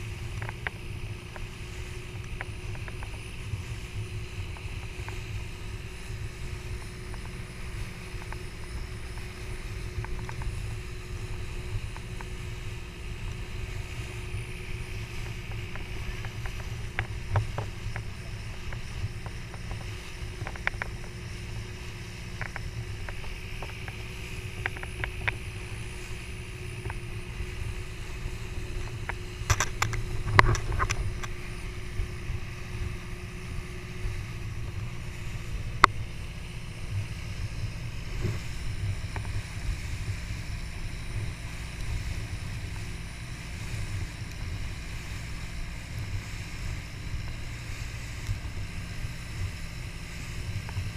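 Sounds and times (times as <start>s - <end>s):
boat engine rumbling: 0.0s - 50.9s.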